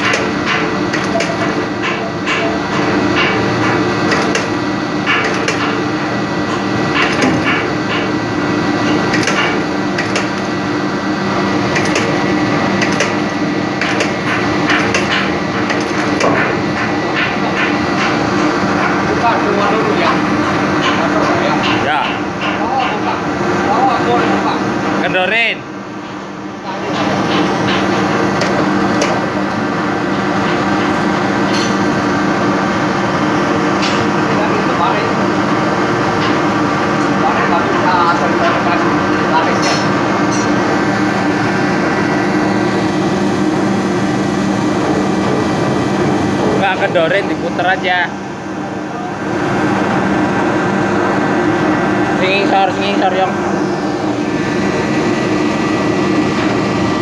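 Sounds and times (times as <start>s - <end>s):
engine-room machinery drone: 0.0s - 57.0s.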